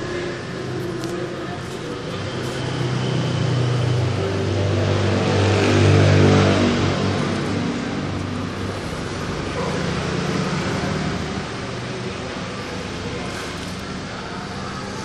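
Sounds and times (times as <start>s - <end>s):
motor vehicle passing: 0.0s - 14.8s.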